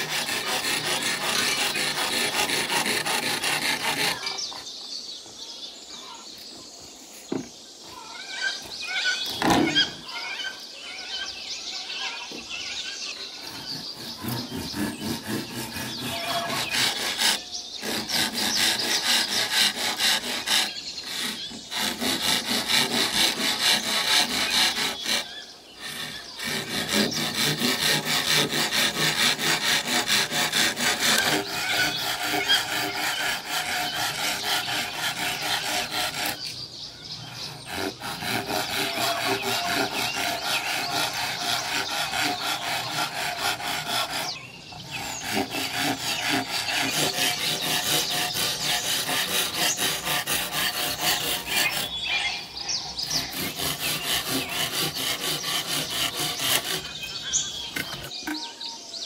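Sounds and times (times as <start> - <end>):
hand tool scraping wood: 0.0 - 4.8, 8.5 - 10.1, 13.1 - 36.6, 37.2 - 52.4, 53.0 - 58.5.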